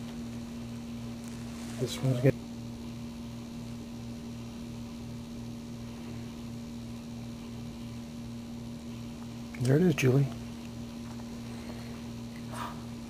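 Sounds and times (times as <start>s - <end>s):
low hum with faint pulsing: 0.0s - 13.0s.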